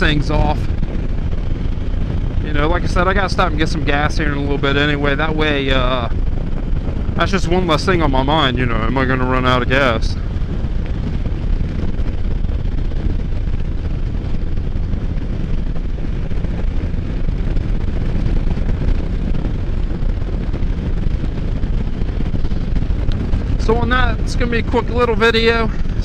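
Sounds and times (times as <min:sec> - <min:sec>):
engine drone: 0:00.0 - 0:26.0
wind buffeting microphone: 0:00.0 - 0:26.0.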